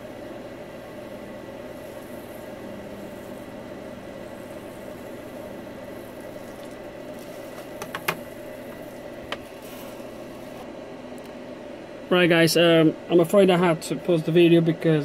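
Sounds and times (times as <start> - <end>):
low hum of machinery: 0.0 - 15.0.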